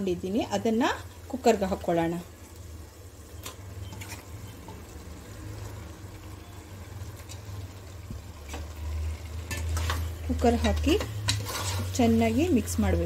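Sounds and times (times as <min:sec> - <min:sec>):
chicken sizzling: 0:00.0 - 0:13.0.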